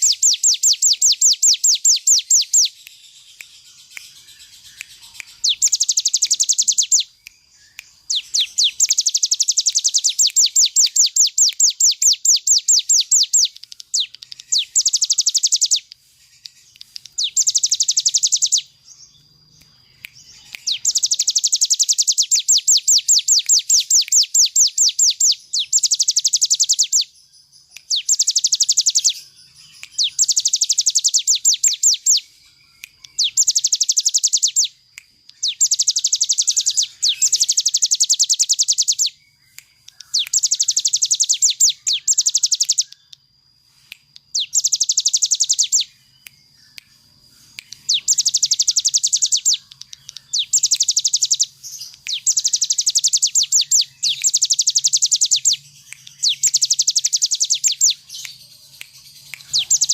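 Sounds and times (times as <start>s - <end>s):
bird singing fast trills: 0.0s - 43.2s, 44.2s - 59.9s.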